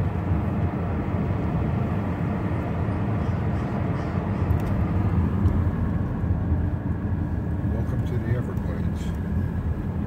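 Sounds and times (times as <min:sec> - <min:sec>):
car driving cabin rumble: 0:00.0 - 0:10.0.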